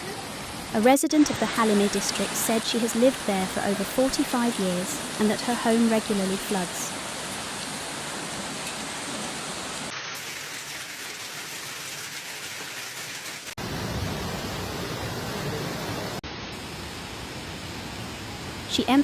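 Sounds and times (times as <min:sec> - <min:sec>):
heavy rain: 0:00.0 - 0:19.0
running floodwater: 0:00.0 - 0:19.0.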